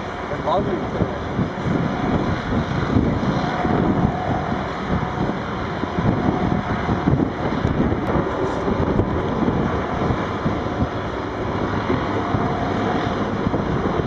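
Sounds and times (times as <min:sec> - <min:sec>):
heavy diesel machinery running: 0:00.0 - 0:14.0
wind buffeting microphone: 0:00.0 - 0:14.0.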